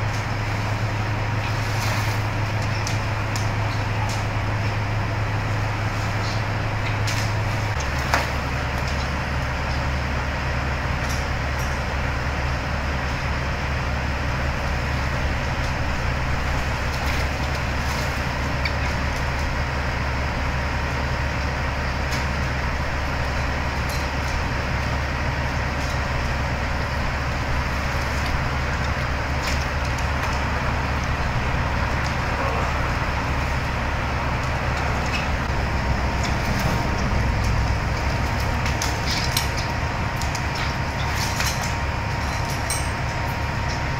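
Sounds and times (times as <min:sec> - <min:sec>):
low engine drone: 0:00.0 - 0:43.9.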